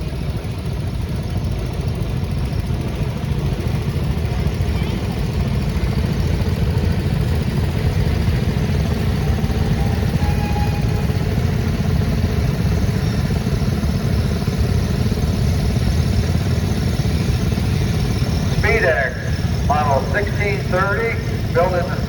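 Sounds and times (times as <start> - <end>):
tractor engines running: 0.0 - 22.0.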